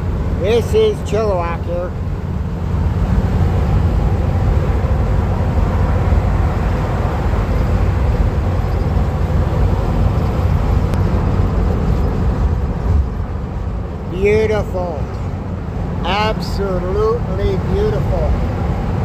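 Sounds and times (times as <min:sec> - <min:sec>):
van engine and road noise: 0:00.0 - 0:19.0.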